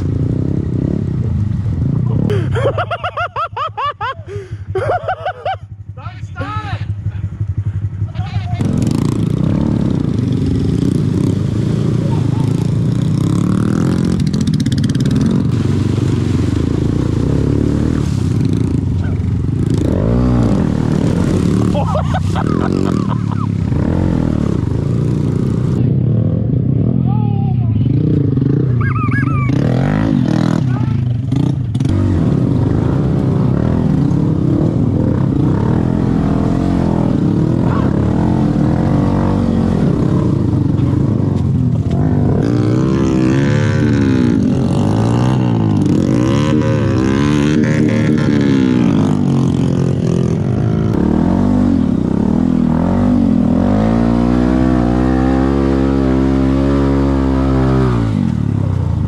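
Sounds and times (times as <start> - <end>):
motorcycle engine revving: 0.0 - 2.9, 5.8 - 27.1, 27.7 - 59.0.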